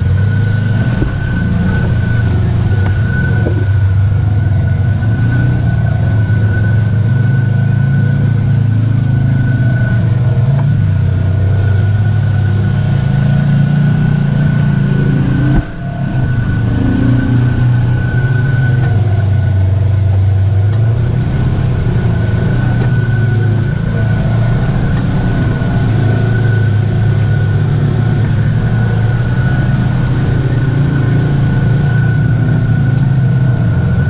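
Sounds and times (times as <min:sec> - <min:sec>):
high whine: 0:00.0 - 0:34.0
vehicle engine droning: 0:00.0 - 0:34.0.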